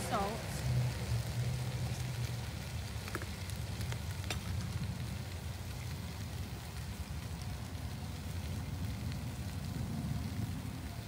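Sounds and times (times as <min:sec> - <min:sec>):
vegetables sizzling in oil: 0:00.0 - 0:09.6
low rumble: 0:00.0 - 0:11.0.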